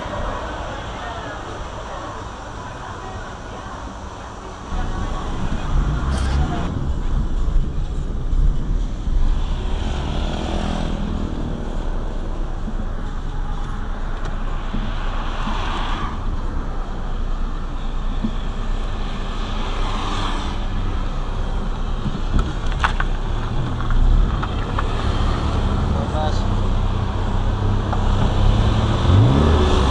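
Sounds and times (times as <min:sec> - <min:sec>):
car engine and road noise: 0:00.0 - 0:29.9
passing traffic: 0:00.0 - 0:29.9.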